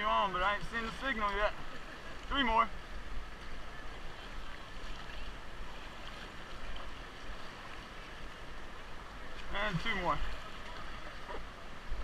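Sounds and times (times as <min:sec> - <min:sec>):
paddle strokes: 0:00.0 - 0:12.0
whitewater rushing: 0:00.0 - 0:12.0.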